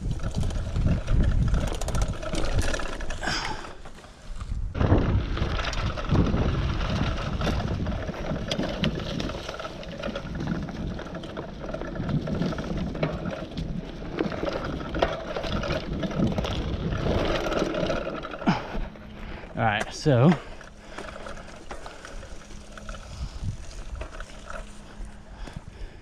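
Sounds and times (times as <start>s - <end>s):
bike rattling over bumps: 0.0s - 26.0s
tyres crunching over dirt: 0.0s - 26.0s
wind buffeting microphone: 0.0s - 26.0s.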